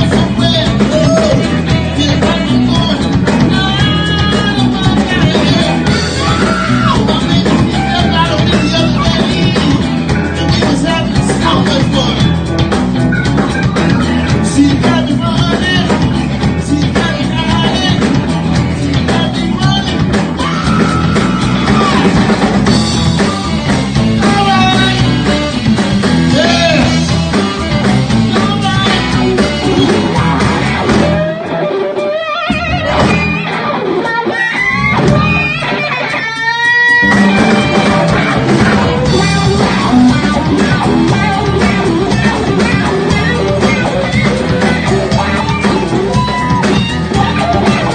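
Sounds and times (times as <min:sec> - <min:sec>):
person singing: 0:00.0 - 0:12.5, 0:13.1 - 0:22.3, 0:23.2 - 0:25.6, 0:26.3 - 0:31.8, 0:36.4 - 0:47.9
live rock band playing: 0:00.0 - 0:47.9.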